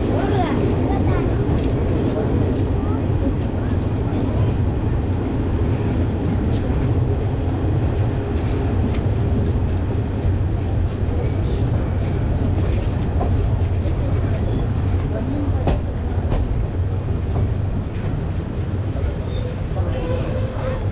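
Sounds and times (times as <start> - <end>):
passenger train rumbling: 0.0 - 20.9
train clicks and rattles: 0.0 - 20.9.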